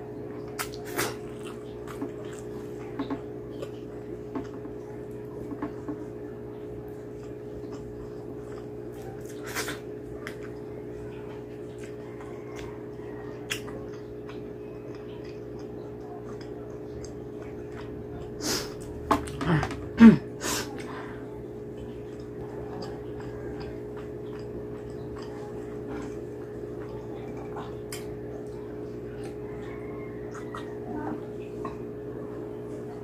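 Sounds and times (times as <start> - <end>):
faint chewing: 0.0 - 33.0
steady background hum: 0.0 - 33.0.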